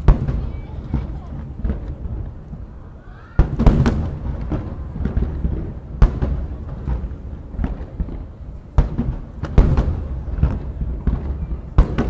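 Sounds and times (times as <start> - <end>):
firework booms: 0.0 - 12.0.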